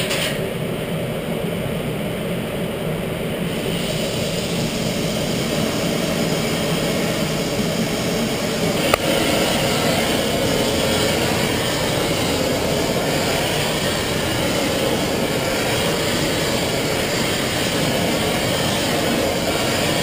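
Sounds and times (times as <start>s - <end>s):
torch flame hissing: 3.1s - 20.0s.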